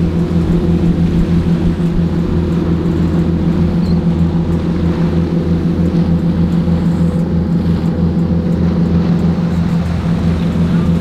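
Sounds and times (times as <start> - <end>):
boat engine throbbing hum: 0.0 - 11.0.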